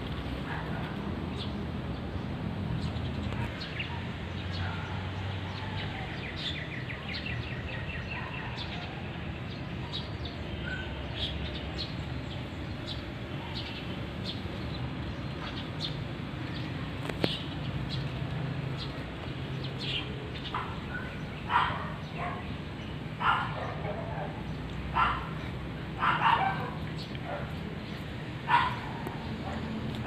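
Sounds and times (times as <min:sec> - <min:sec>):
small birds chirping: 0:00.4 - 0:30.0.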